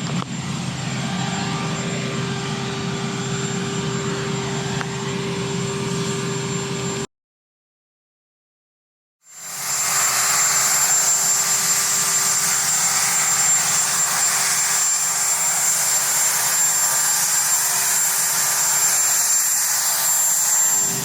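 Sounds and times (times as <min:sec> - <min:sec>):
helicopter turbine engines whining: 0:00.0 - 0:07.1, 0:09.2 - 0:21.0.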